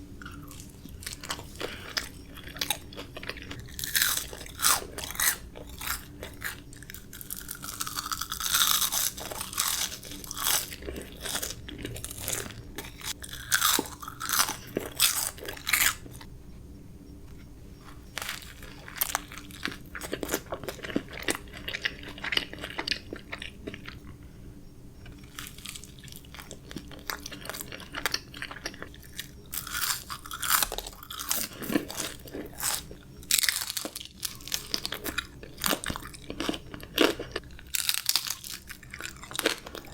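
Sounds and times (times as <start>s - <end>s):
person chewing and crunching food: 0.0s - 16.3s, 17.3s - 39.9s.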